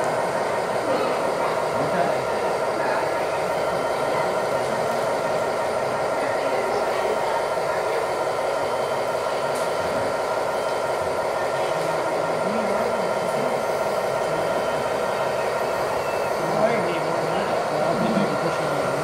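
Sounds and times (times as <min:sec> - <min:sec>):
model loader mechanical whine: 0:00.0 - 0:19.0.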